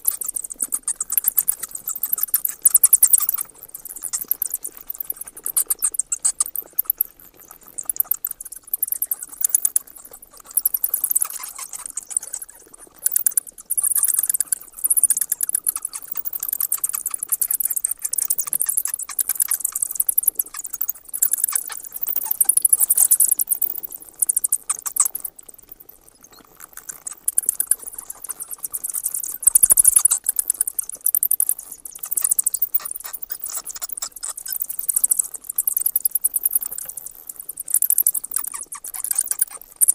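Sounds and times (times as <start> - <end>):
bat calls high-pitched clicks: 0.0 - 39.9.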